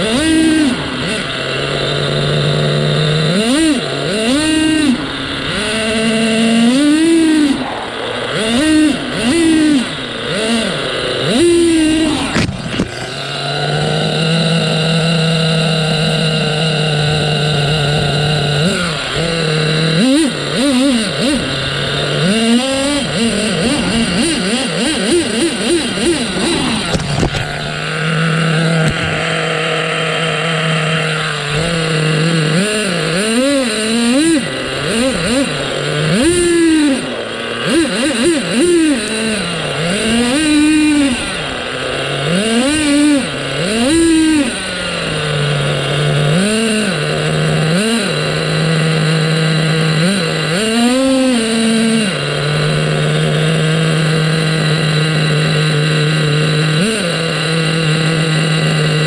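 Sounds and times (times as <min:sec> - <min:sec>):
model car nitro engine revving: 0:00.0 - 0:59.0.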